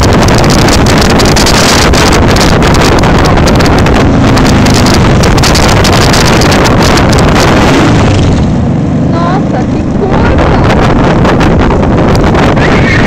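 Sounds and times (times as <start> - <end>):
motorcycle engine at speed: 0.0 - 13.0
wind rush on microphone: 0.0 - 13.0.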